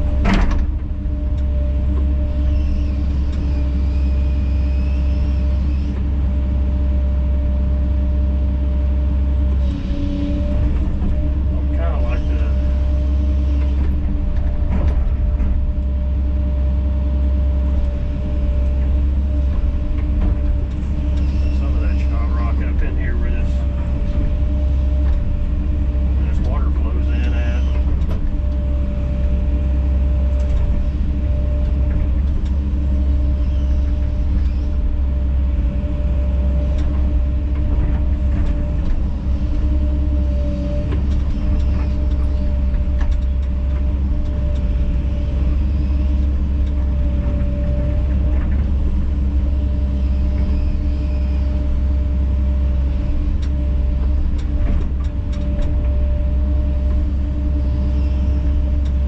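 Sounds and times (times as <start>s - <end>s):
hydraulic whine: 0.0s - 8.5s, 9.3s - 59.0s
excavator diesel engine running: 0.0s - 59.0s.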